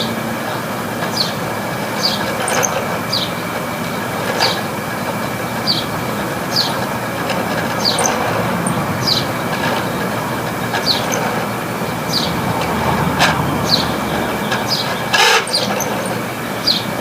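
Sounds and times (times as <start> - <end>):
air conditioner whirring: 0.0 - 17.0
high downward-sliding squeaks: 1.2 - 16.8.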